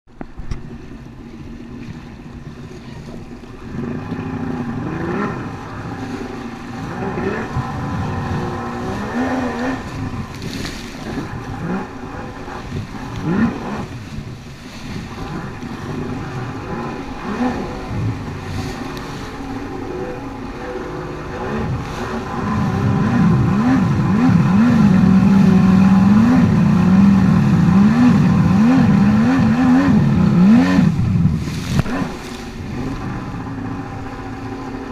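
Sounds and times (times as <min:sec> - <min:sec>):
watercraft engine revving: 0:00.1 - 0:34.9.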